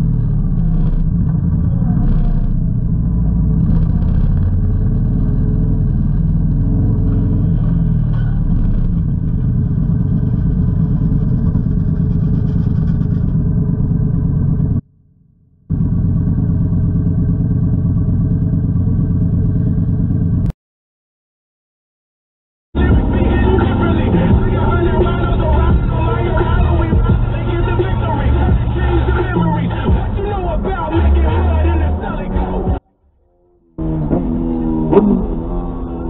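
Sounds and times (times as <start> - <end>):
motorcycle engine rumbling: 0.0 - 20.5, 22.8 - 36.0.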